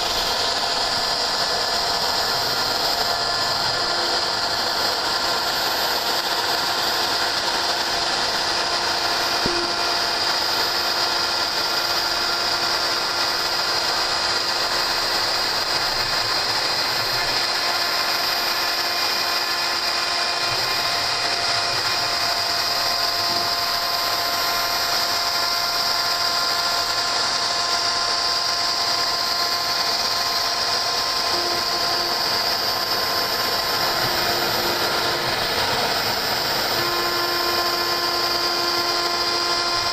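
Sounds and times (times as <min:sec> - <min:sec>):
low drive motor tones: 0:00.0 - 0:39.9
router spindle whine: 0:00.0 - 0:39.9.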